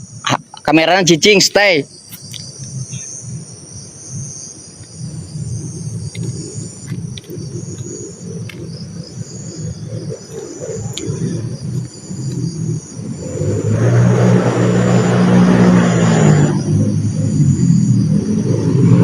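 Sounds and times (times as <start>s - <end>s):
crickets and insects chirring: 0.0s - 19.0s
uneven low rumble: 2.2s - 19.0s.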